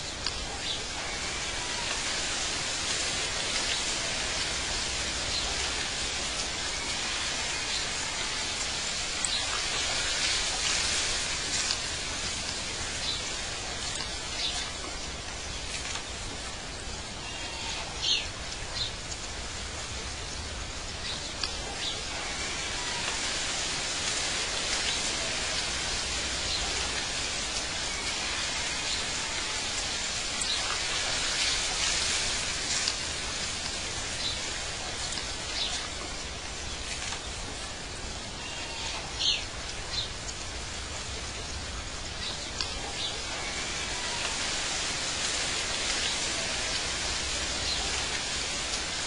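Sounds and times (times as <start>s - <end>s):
rushing water: 0.0s - 49.0s.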